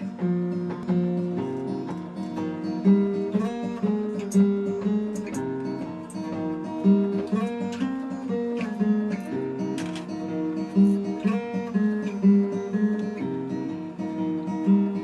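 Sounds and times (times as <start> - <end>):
guitar chords strummed: 0.0 - 15.0.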